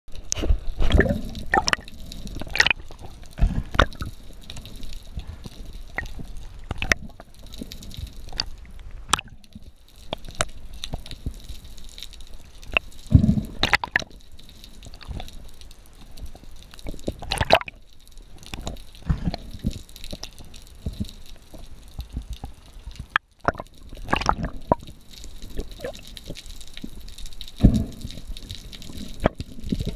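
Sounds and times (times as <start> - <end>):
underwater clicks and pops: 0.1 - 29.9
water surges and bubbles: 0.1 - 29.9.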